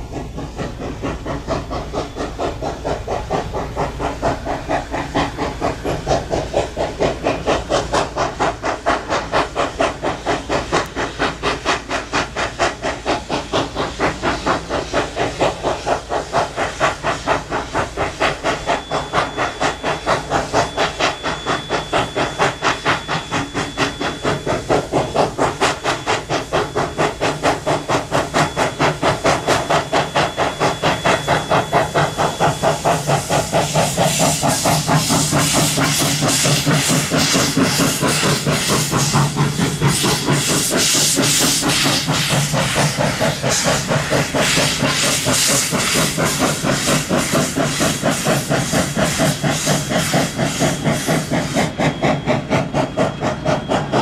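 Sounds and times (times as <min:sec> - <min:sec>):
steam hissing: 0:00.0 - 0:54.0
steam locomotive exhaust beats: 0:00.0 - 0:54.0.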